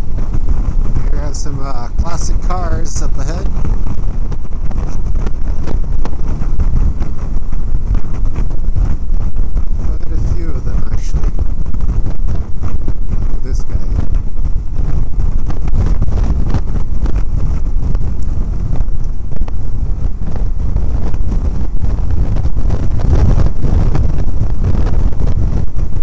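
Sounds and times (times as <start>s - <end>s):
motorcycle engine: 0.0s - 26.0s
road noise: 0.0s - 26.0s
wind buffeting microphone: 0.0s - 26.0s.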